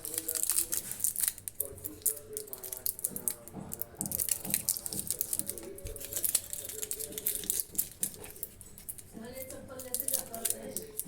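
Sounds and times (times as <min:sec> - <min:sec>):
toffee crunching: 0:00.0 - 0:11.0.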